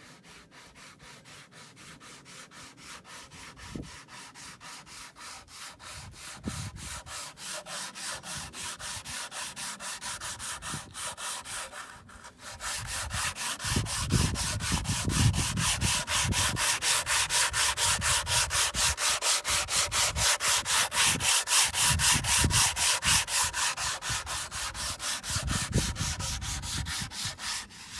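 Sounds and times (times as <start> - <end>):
hand-sanding plywood: 0.0 - 27.9.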